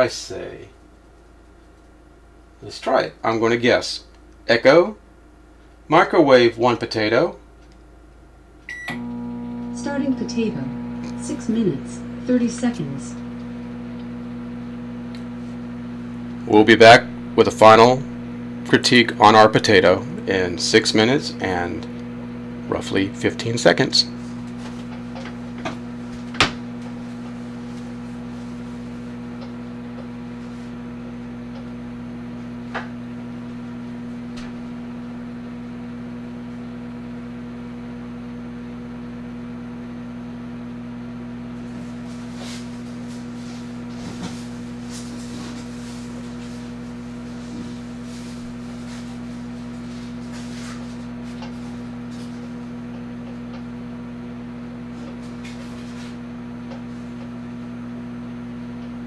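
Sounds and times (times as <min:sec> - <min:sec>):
microwave humming: 0:00.0 - 0:59.0.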